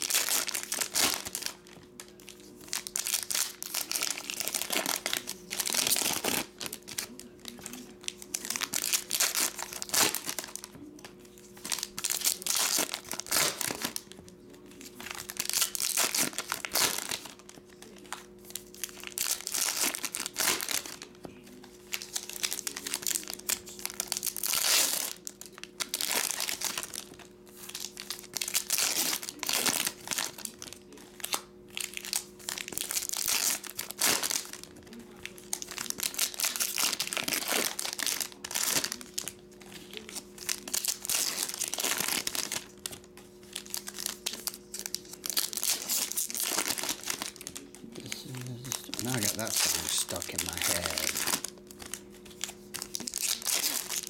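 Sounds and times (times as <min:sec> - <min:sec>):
foil wrappers crinkling: 0:00.0 - 0:54.0.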